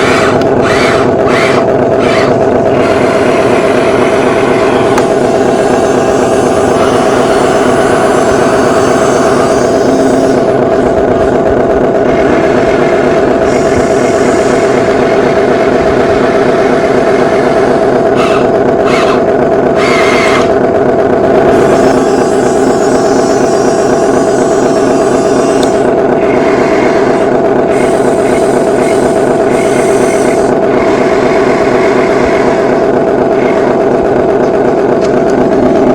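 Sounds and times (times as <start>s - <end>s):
toy construction machine motors: 0.0s - 35.9s.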